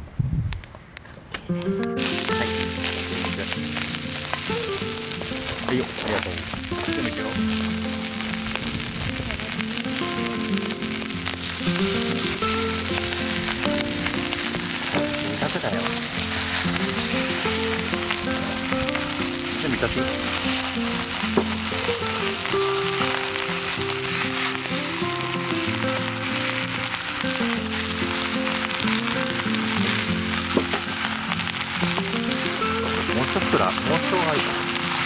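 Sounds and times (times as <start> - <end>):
background music slow notes: 1.5 - 35.0
meat and leeks sizzling: 1.5 - 35.0.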